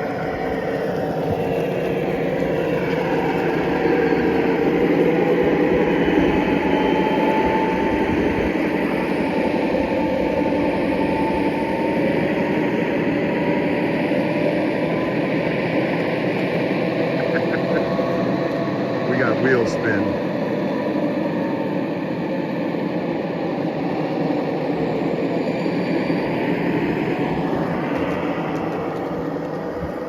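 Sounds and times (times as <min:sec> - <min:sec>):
faint whine: 0:00.0 - 0:30.0
model locomotive motors running: 0:00.0 - 0:30.0.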